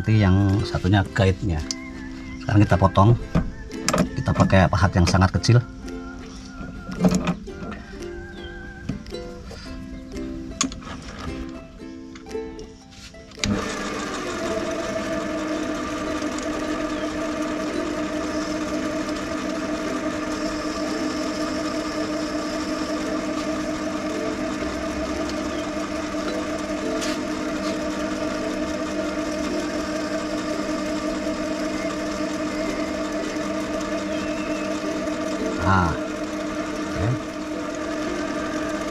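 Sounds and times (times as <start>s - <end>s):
metal lathe running: 0.0s - 9.7s, 13.4s - 38.9s.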